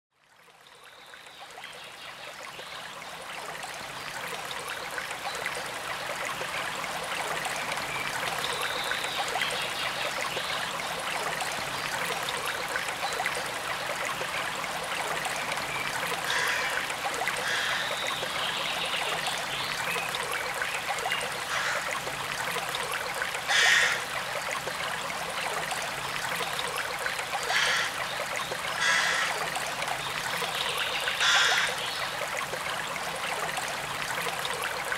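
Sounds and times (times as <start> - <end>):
stream water rushing: 0.5 - 34.9.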